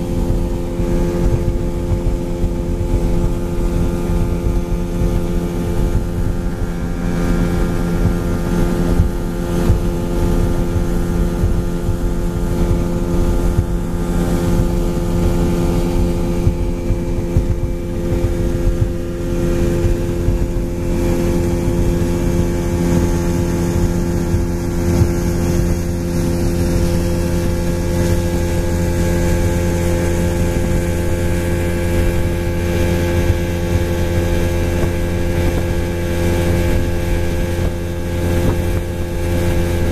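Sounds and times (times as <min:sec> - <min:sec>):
outboard motor running: 0:00.0 - 0:39.9
water rushing: 0:00.0 - 0:39.9
wind: 0:00.0 - 0:39.9.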